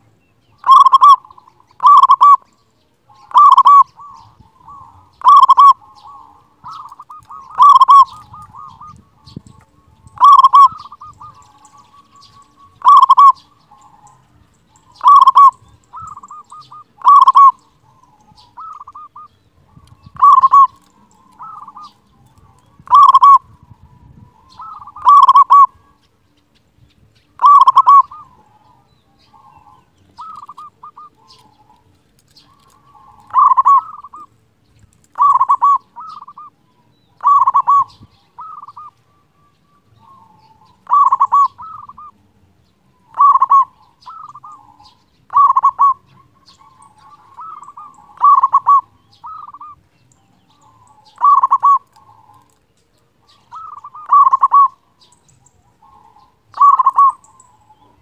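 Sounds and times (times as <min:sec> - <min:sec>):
dove cooing: 0:00.6 - 0:02.5, 0:03.1 - 0:26.0, 0:27.4 - 0:34.4, 0:35.0 - 0:58.0.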